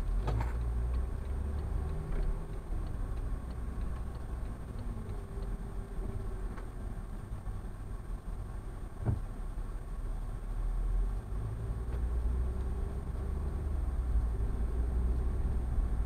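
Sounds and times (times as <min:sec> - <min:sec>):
turn signal ticking: 0:00.0 - 0:09.9, 0:11.1 - 0:16.0
road and engine rumble: 0:00.0 - 0:16.0.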